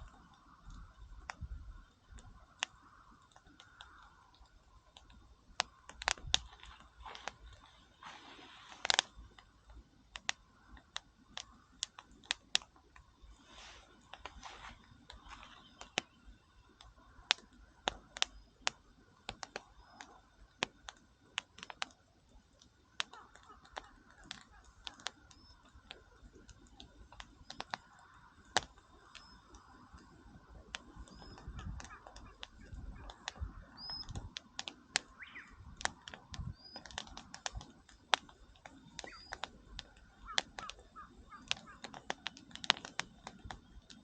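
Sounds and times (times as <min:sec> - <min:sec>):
campfire crackling: 0:00.0 - 0:44.0
faint steady hiss: 0:00.0 - 0:44.0.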